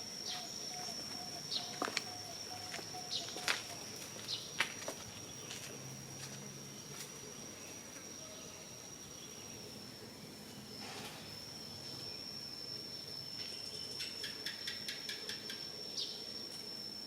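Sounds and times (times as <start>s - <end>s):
insect chorus trilling: 0.0s - 17.0s.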